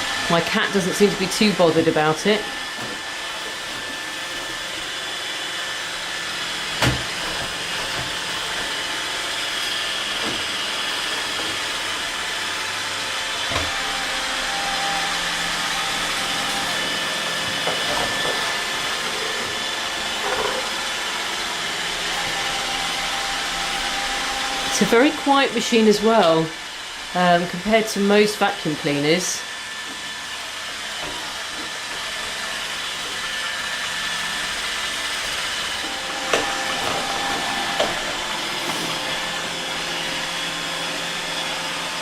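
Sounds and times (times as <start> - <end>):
robot vacuum whirring: 0.0 - 42.0.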